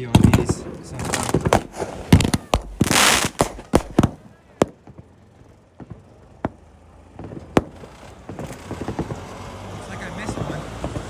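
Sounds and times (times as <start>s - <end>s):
sharp firework reports: 0.0s - 11.0s.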